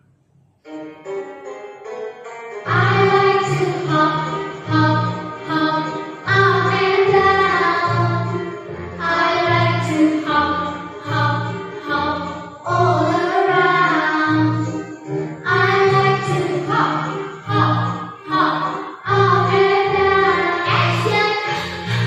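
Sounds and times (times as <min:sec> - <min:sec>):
children's song singing: 0:02.6 - 0:22.0.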